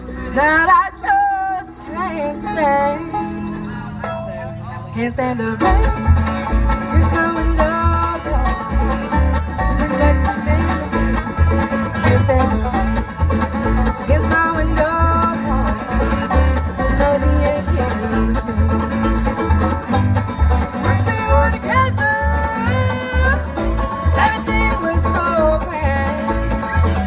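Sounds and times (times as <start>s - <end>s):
bluegrass string band playing: 0.0s - 27.0s
rolling banjo: 0.0s - 27.0s
upright bass plucking: 0.0s - 27.0s.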